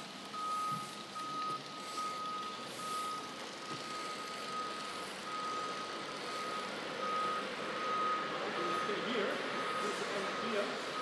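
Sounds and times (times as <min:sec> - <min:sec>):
high warning beeps: 0:00.4 - 0:11.0.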